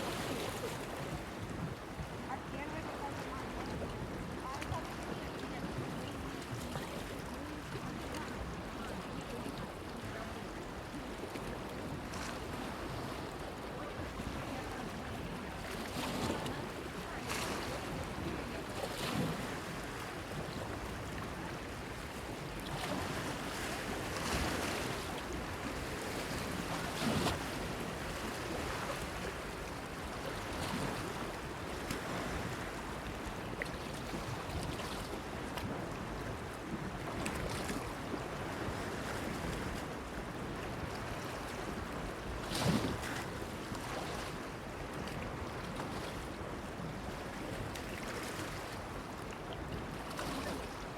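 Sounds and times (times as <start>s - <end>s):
small waves splashing against pier: 0.0s - 50.9s.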